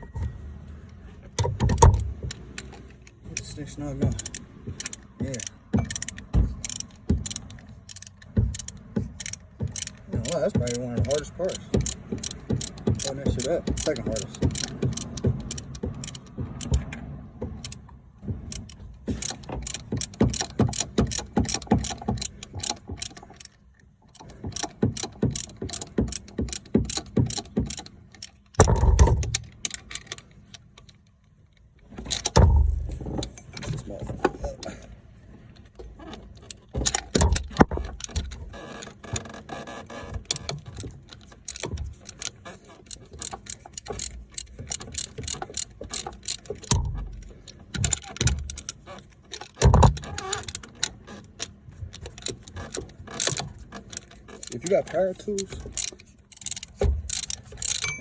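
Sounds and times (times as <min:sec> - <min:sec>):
socket ratchet clicking: 0:01.4 - 0:16.9, 0:17.6 - 0:17.9, 0:18.5 - 0:31.1, 0:35.6 - 0:58.0.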